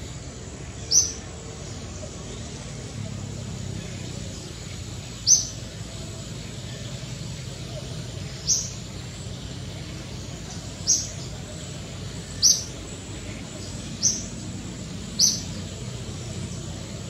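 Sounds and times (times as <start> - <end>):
bird chirping: 0.0 - 17.0
steady low rumble: 0.0 - 17.0.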